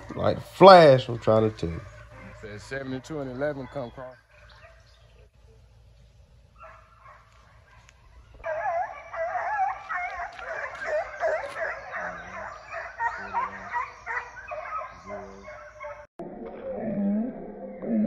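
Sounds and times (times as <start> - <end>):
hounds baying and yelping: 0.0 - 5.7, 6.5 - 16.1.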